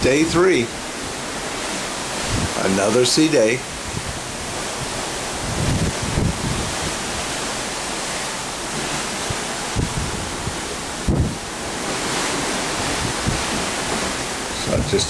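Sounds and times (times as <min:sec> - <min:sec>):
wind buffeting microphone: 0:00.0 - 0:03.0, 0:03.6 - 0:15.0
rush of wind and sea: 0:00.0 - 0:15.0.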